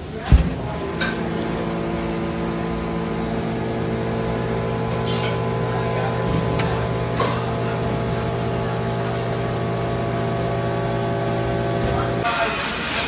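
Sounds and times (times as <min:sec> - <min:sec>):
vacuum sealer pump humming: 0:00.0 - 0:13.0.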